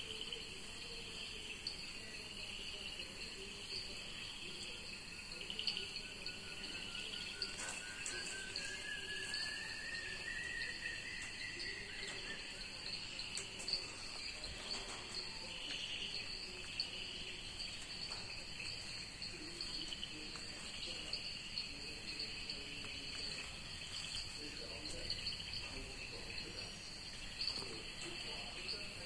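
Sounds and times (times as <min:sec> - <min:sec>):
insect chorus chirring: 0:00.0 - 0:29.0.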